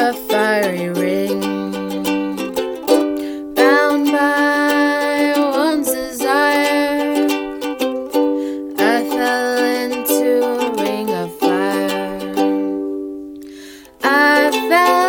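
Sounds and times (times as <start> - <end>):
person singing long notes: 0.0 - 15.0
ukulele strumming: 0.0 - 15.0.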